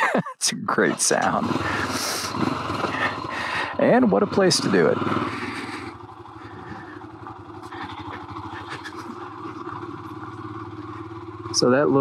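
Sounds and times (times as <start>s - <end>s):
motorcycle engine running at low revs: 0.7s - 12.0s.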